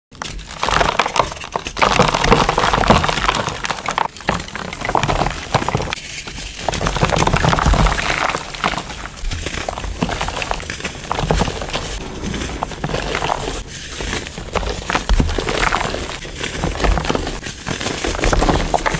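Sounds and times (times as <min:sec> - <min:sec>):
crumbly material crunching by hand: 0:00.1 - 0:18.9.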